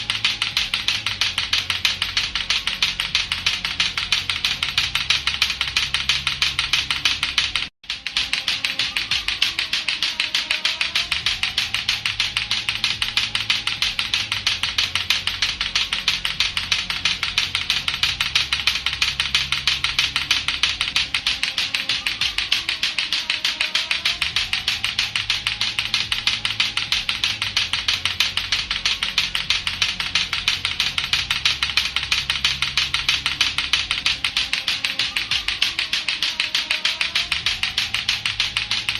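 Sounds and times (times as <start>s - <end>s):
plastic clacker balls clacking: 0.0s - 38.9s.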